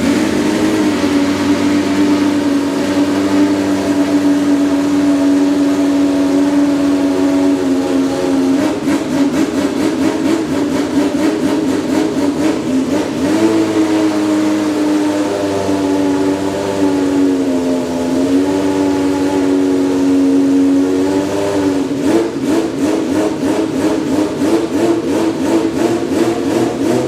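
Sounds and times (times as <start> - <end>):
race car engine running: 0.0 - 27.0.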